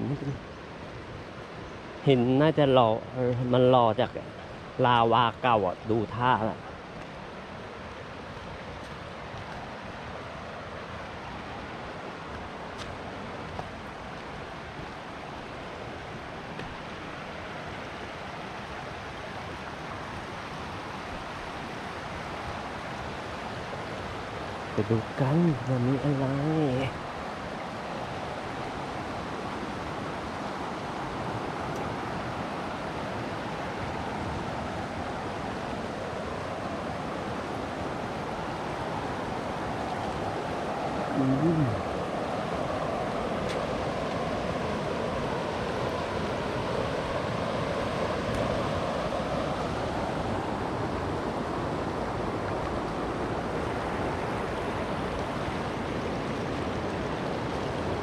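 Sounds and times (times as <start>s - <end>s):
waterfall water rushing: 0.0s - 58.0s.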